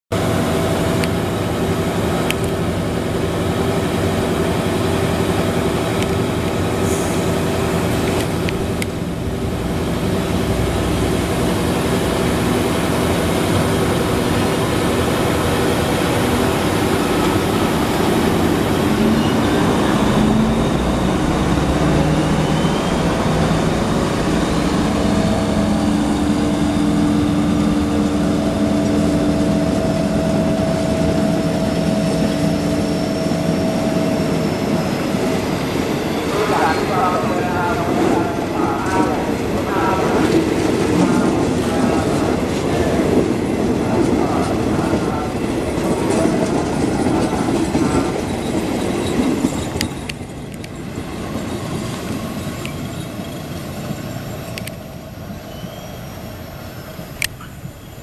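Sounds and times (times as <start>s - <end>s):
diesel locomotive engine humming: 0.1s - 58.0s.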